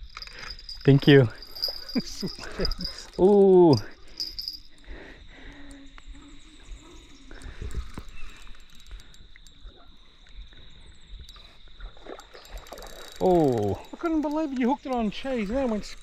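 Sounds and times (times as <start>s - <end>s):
crickets droning: 0.0s - 16.0s.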